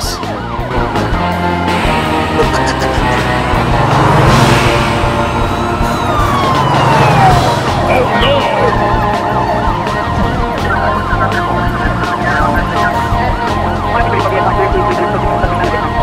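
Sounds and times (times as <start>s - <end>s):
falling siren tone: 0.0s - 15.6s
background music: 0.0s - 16.0s
police siren yelp: 0.0s - 16.0s.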